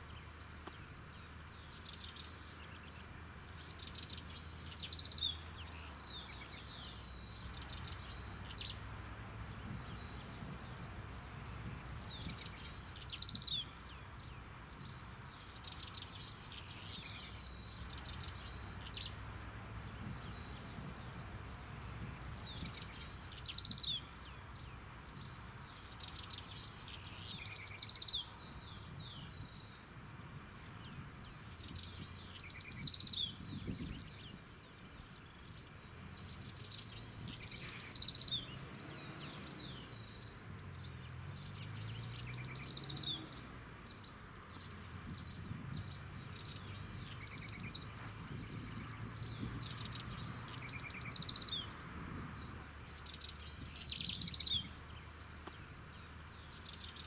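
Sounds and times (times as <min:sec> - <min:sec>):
low outdoor rumble: 0:00.0 - 0:57.0
songbirds warbling: 0:00.0 - 0:57.0.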